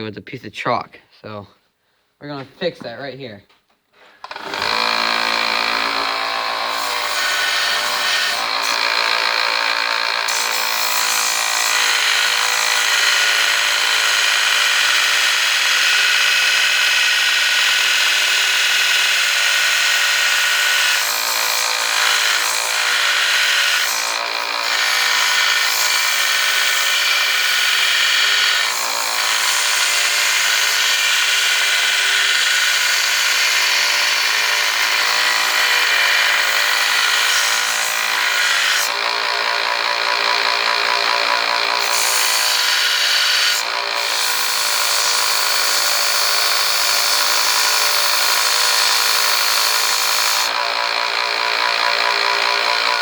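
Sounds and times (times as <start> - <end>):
electric grinder grinding knife blade: 4.2 - 53.0.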